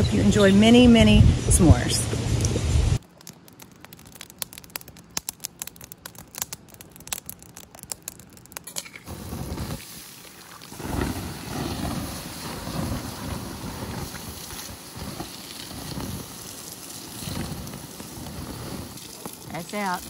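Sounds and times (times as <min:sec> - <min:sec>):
wood fire crackling and popping: 0:02.4 - 0:20.0.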